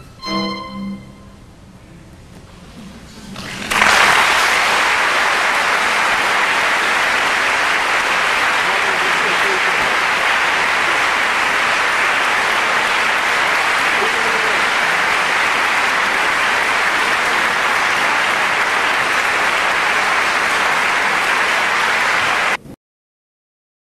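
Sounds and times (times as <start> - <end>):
audience applauding: 3.4 - 22.6.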